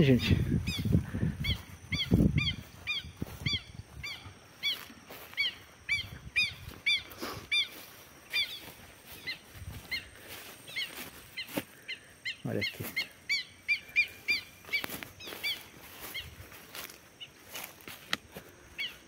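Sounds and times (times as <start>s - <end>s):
bird calling in nasal notes: 0.0s - 16.4s.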